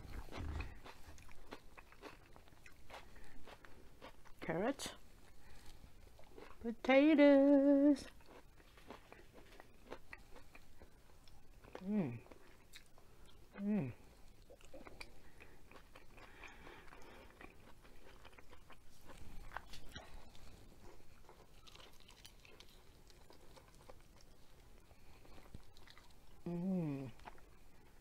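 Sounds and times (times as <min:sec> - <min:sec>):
person chewing: 0:00.0 - 0:04.4, 0:05.2 - 0:06.6, 0:08.1 - 0:28.0.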